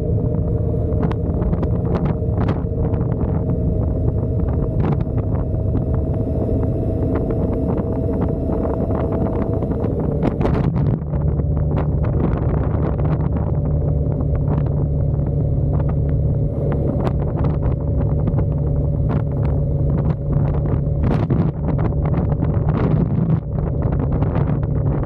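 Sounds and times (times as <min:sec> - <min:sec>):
motorcycle engine cruising: 0:00.0 - 0:25.0
wind buffeting microphone: 0:00.0 - 0:25.0.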